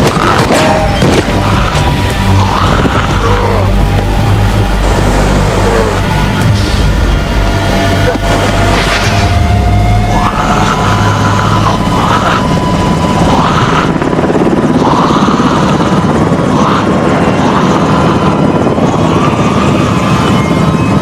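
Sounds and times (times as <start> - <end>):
helicopter rotor chopping: 0.0 - 21.0.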